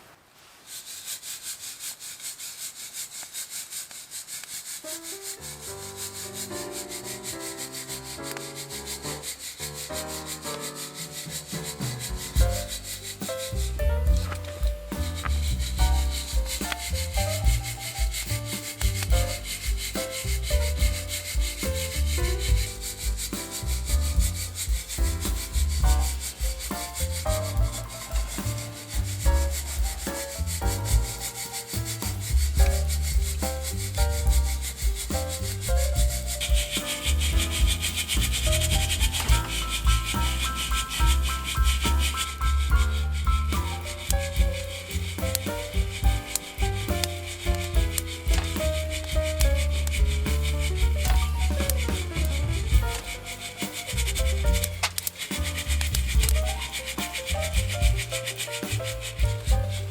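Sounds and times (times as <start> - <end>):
bass line: 11.5 - 59.9.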